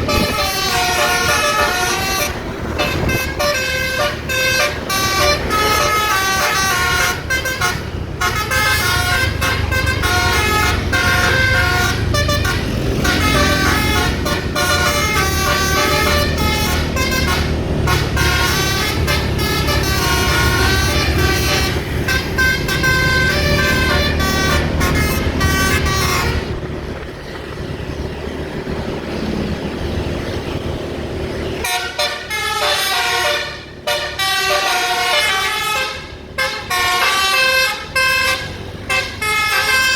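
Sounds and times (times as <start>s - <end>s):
bus musical horn playing tune: 0.0s - 26.8s, 31.6s - 39.9s
bus engine rumbling: 0.0s - 39.9s.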